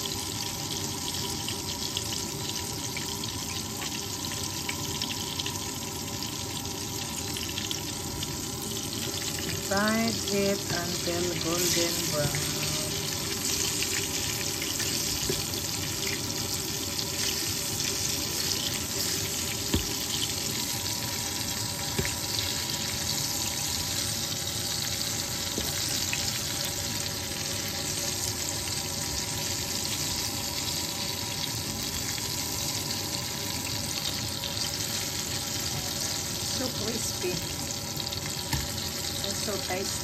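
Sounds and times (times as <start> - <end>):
chicken frying in hot oil: 0.0 - 40.0.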